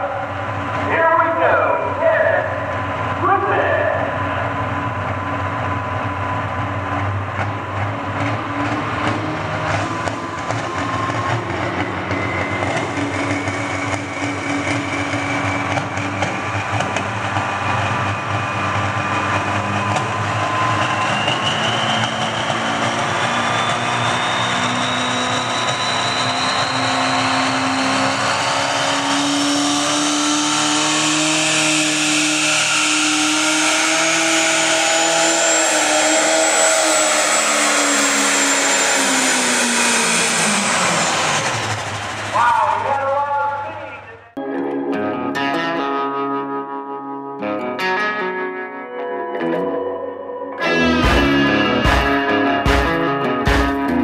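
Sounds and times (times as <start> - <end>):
tractor diesel engine: 0.0 - 45.9, 50.5 - 54.0
turbo whine: 0.0 - 47.2, 49.5 - 54.0.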